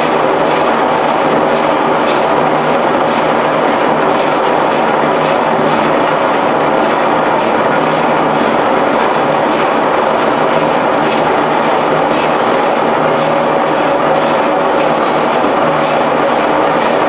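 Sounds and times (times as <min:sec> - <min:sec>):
power looms clattering: 0:00.0 - 0:17.0.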